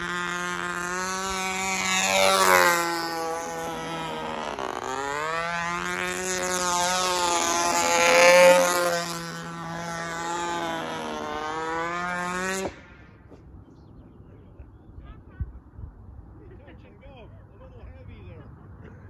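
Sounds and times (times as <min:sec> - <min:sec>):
model aircraft engine: 0:00.0 - 0:19.0.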